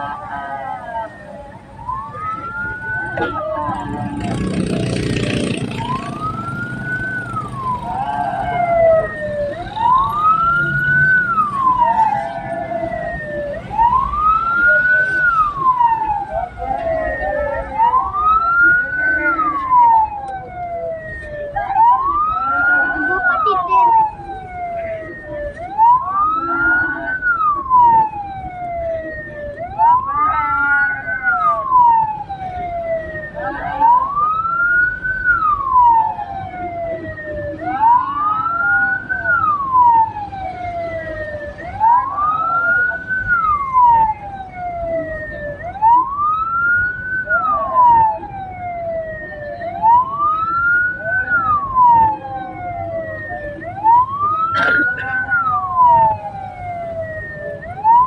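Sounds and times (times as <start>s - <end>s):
siren wailing: 0.0s - 58.0s.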